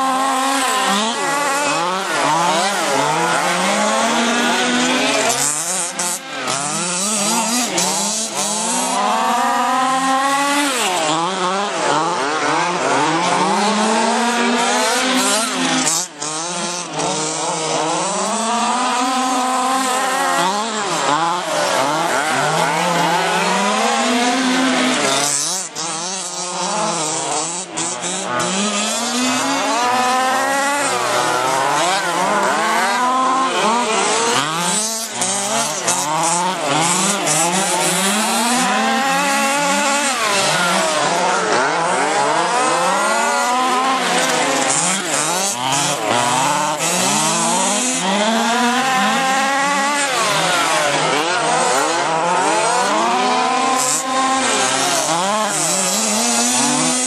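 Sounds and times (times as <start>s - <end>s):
small two-stroke engines revving: 0.0s - 57.0s.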